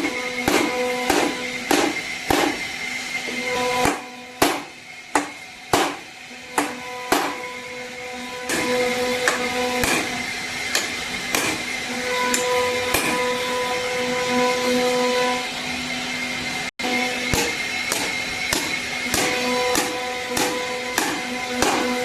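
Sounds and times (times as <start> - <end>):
hammer blows: 0.0 - 13.7, 17.0 - 22.0
motor humming: 0.0 - 22.0.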